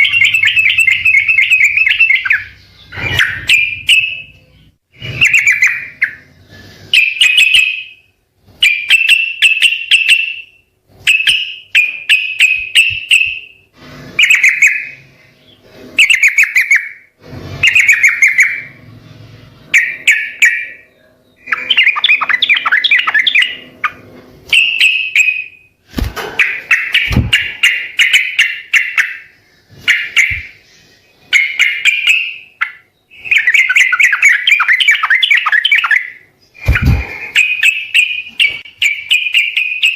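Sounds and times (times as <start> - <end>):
bird singing chattering phrases: 0.0 - 13.6, 19.7 - 25.7, 26.4 - 39.9.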